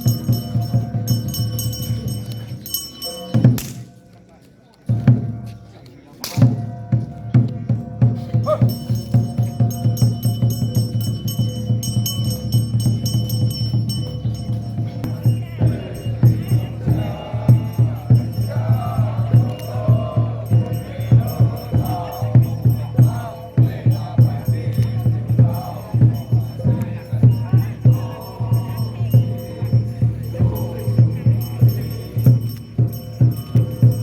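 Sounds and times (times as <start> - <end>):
group chanting in unison: 0.0 - 4.1, 6.5 - 34.0
rhythmic drumbeat: 0.0 - 4.1, 4.8 - 34.0
small rattling percussion: 0.0 - 5.6, 7.3 - 34.0.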